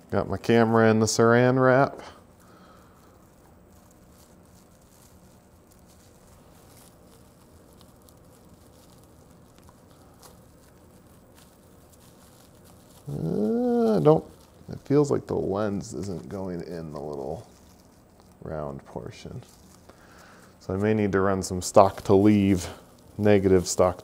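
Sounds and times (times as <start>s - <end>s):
faint low hum: 0.0s - 24.0s
plastic wrap crinkling: 0.0s - 24.0s.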